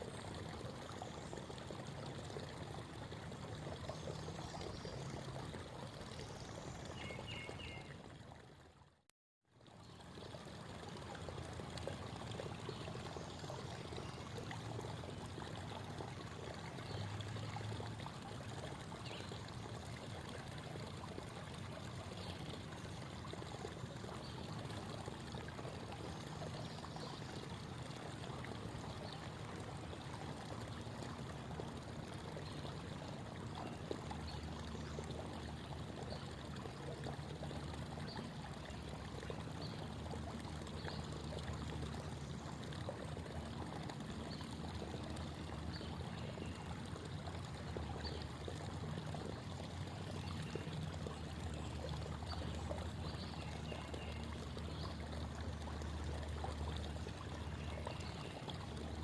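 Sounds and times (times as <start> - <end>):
creek water babbling: 0.0 - 59.0.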